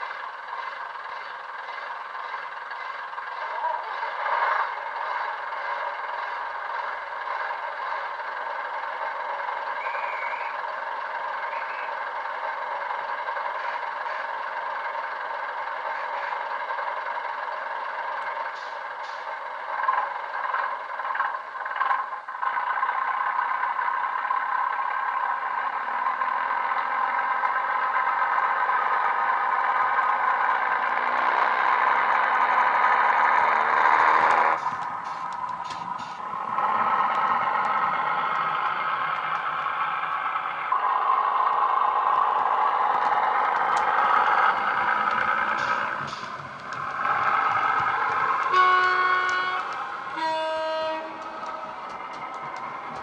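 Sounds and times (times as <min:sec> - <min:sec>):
model train engine sound from speaker: 0:00.0 - 0:53.0.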